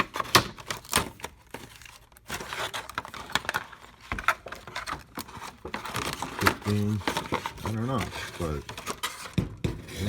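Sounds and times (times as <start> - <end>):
packaging rustling: 0.0 - 9.4.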